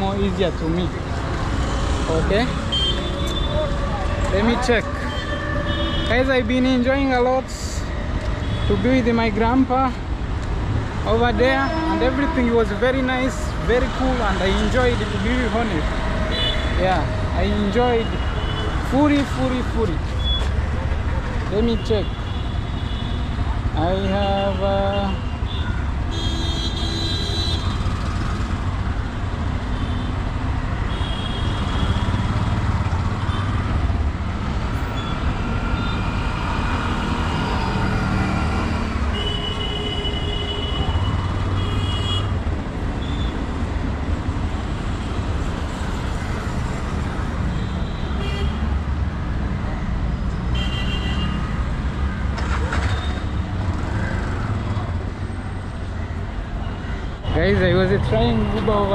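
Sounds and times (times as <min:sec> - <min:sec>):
road traffic noise: 0:00.0 - 0:58.9.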